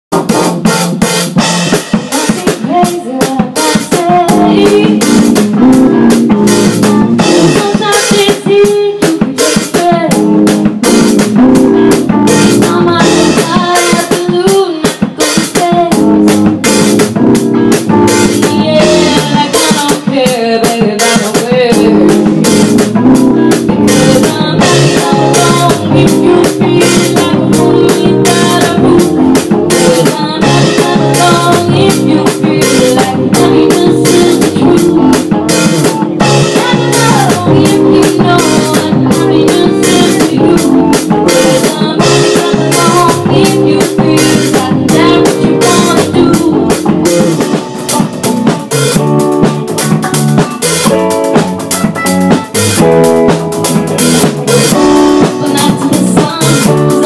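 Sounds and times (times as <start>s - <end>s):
band song playing: 0.1s - 57.0s
drum kit steady beat: 0.1s - 57.0s.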